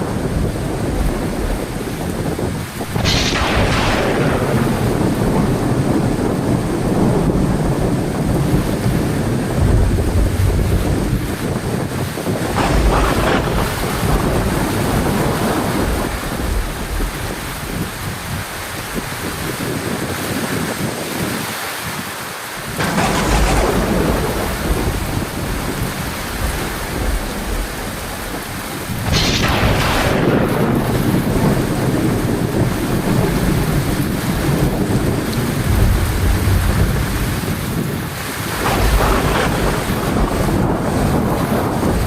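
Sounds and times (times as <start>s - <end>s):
thunder cracks: 0.0s - 19.1s, 22.6s - 42.0s
deep thunder rumbling: 0.0s - 19.9s, 22.6s - 42.0s
heavy rain falling: 0.0s - 42.0s.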